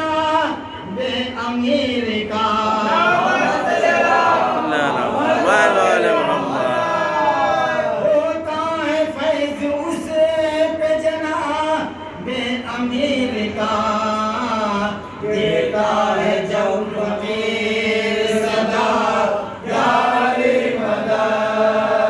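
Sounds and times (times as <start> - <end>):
men chanting: 1.0 - 10.1, 12.3 - 22.0.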